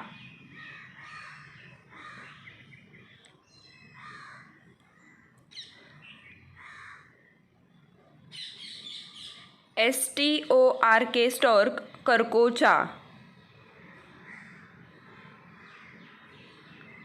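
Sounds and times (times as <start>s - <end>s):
faint bird calls: 0.0s - 9.7s, 13.0s - 17.0s.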